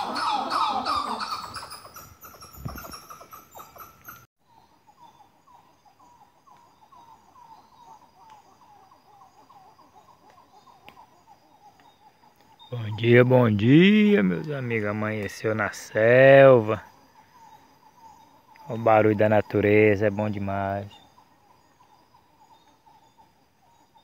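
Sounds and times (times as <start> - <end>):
rapid pitched animal calls: 0.0 - 24.0.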